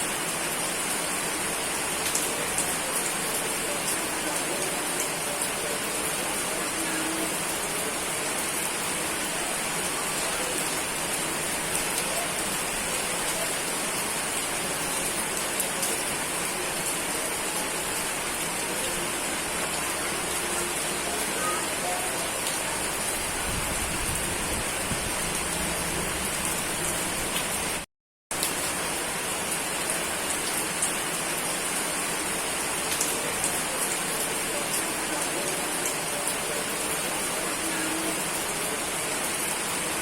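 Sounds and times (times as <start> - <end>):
steady rain hiss: 0.0 - 27.8, 28.4 - 40.0.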